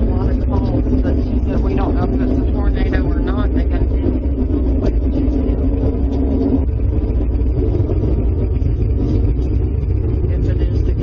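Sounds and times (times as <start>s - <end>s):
low rumbling drone: 0.0s - 11.0s
steady hum: 0.0s - 11.0s.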